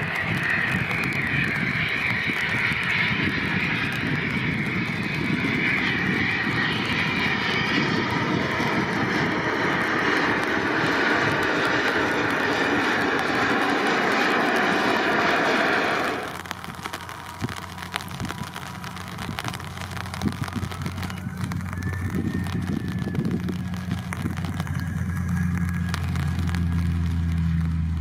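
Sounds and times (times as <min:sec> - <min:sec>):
jet engines with high whine: 0:00.0 - 0:28.0.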